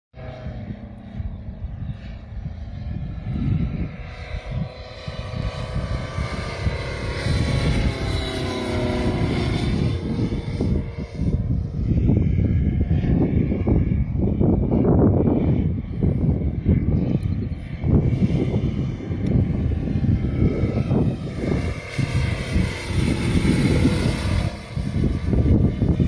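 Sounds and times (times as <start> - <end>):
model plane engine flying overhead: 0.2 - 26.0
wind rumbling on microphone: 0.2 - 26.0.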